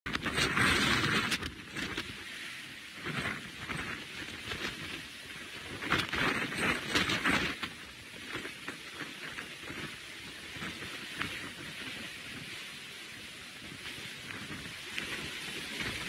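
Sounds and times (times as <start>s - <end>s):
gusting wind: 0.1s - 16.0s.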